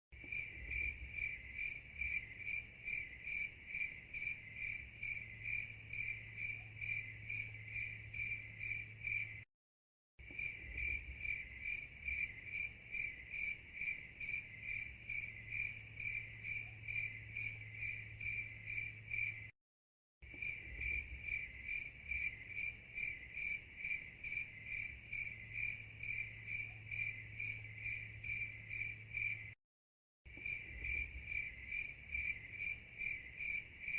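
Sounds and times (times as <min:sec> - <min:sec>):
cricket chirping: 0:00.2 - 0:09.5, 0:10.2 - 0:19.5, 0:20.2 - 0:29.6, 0:30.3 - 0:33.9.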